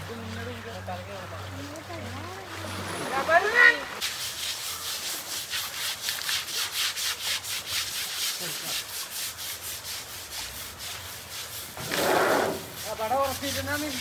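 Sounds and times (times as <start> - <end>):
scrubbing elephant hide: 0.0 - 14.0.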